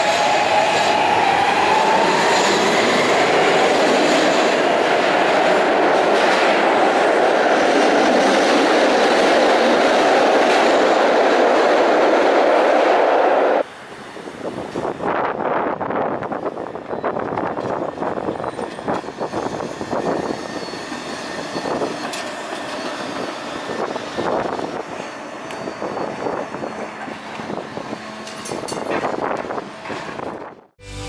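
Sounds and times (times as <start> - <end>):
trolley wheels rumbling on rail: 0.0 - 13.1, 14.2 - 30.6.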